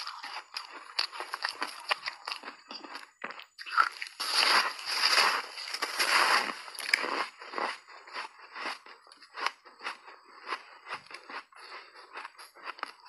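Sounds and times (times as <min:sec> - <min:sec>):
person crunching ice: 0:00.0 - 0:13.0.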